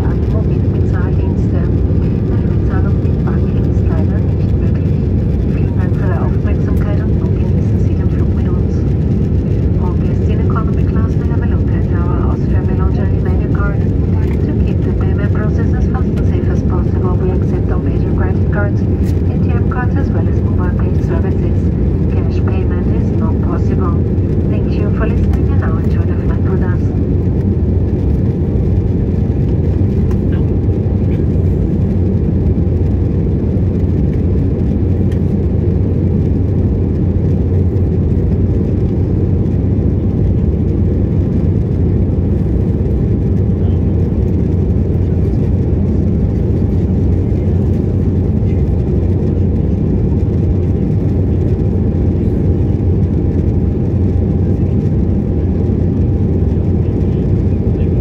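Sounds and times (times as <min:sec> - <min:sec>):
aircraft engines droning: 0:00.0 - 0:58.0
faint steady whine: 0:00.0 - 0:58.0.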